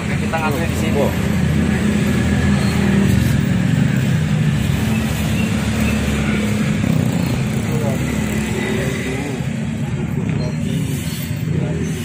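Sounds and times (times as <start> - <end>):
low rumble of vehicle traffic: 0.0 - 12.0.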